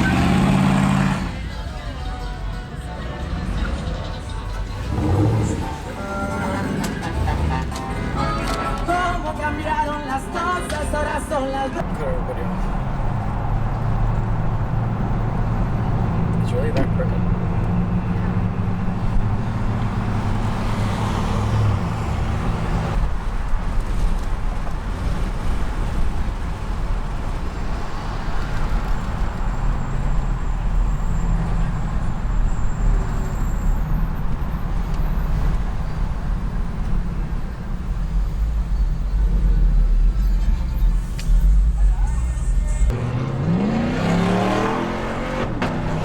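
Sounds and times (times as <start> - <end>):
road noise: 0.0 - 46.0
vehicle engine rumble: 0.0 - 46.0.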